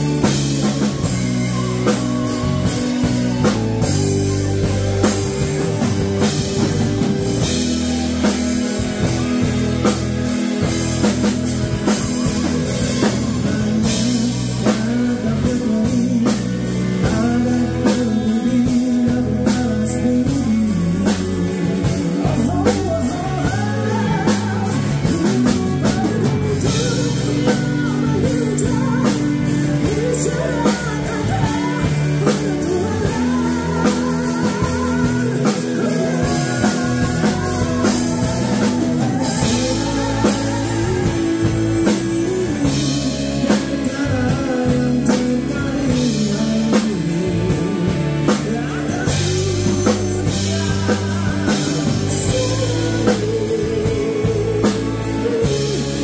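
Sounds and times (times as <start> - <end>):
person singing: 0.0 - 56.0
rock band playing: 0.0 - 56.0.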